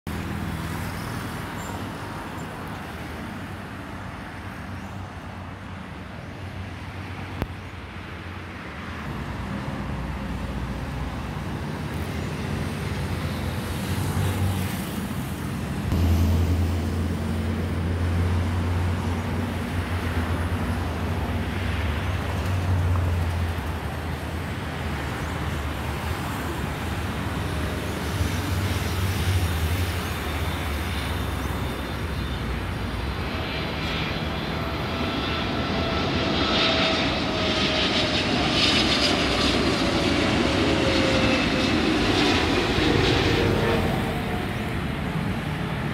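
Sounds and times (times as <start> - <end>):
jet engine roar: 0.1 - 45.9.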